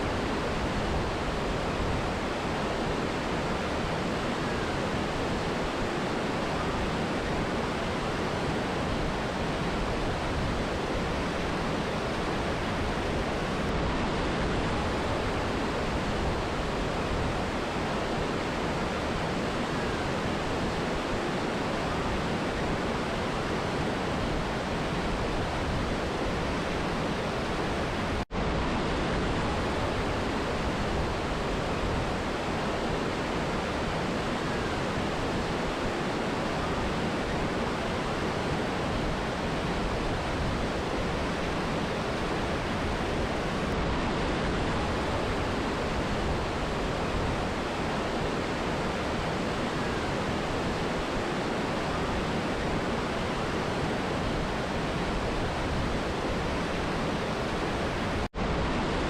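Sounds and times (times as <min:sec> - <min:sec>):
river and waterfall rushing: 0:00.0 - 0:59.0.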